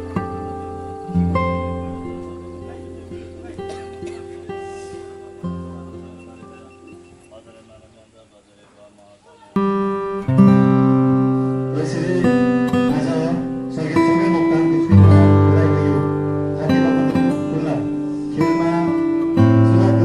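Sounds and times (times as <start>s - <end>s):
acoustic guitar slow chords: 0.0s - 8.2s, 9.4s - 20.0s.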